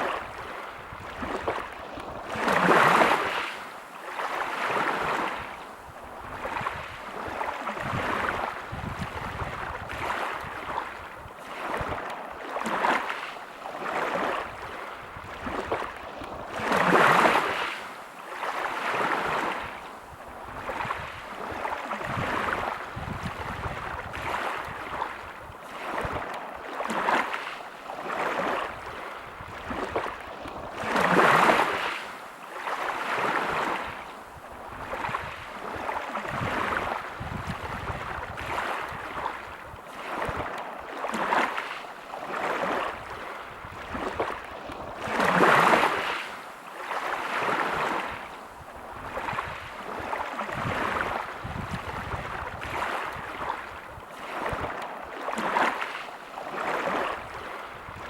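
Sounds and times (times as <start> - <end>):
waves breaking on pebble beach: 0.0 - 58.0.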